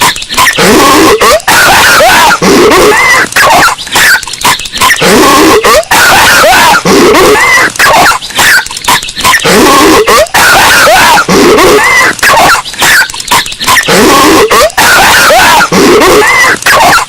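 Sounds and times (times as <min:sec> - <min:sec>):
distorted cartoon voice coughing: 0:00.0 - 0:17.0.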